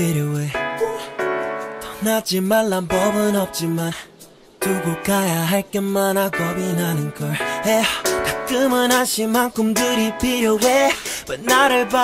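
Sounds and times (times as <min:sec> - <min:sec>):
song with sung melody: 0:00.0 - 0:12.0.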